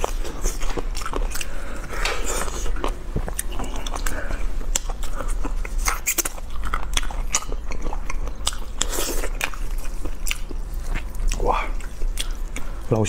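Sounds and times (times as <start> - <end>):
person chewing chicken: 0.0 - 12.9.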